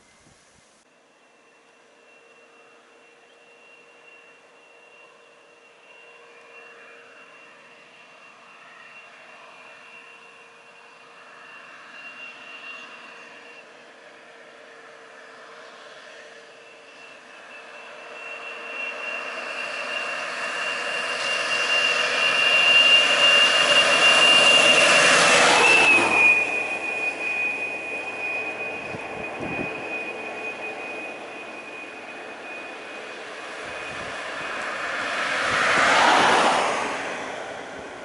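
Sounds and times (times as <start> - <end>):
bus passing with high whine: 0.0 - 38.0
road traffic passing: 0.9 - 38.0.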